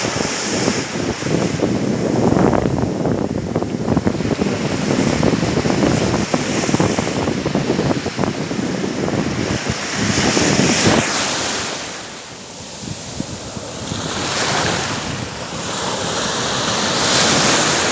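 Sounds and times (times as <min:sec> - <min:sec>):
waves washing on shore: 0:00.0 - 0:17.9
wind buffeting microphone: 0:00.0 - 0:17.9.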